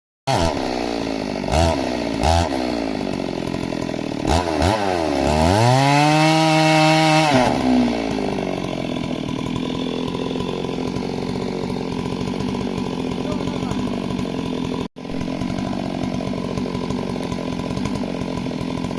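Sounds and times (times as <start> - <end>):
chainsaw revving: 0.3 - 18.9.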